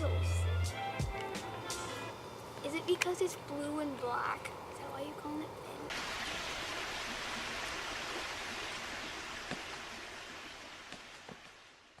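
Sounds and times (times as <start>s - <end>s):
steady hiss of noise: 0.0s - 12.0s.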